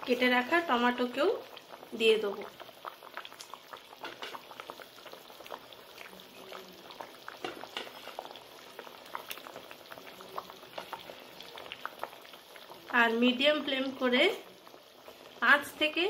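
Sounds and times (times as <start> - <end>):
gravy bubbling in a pan: 0.0 - 16.0.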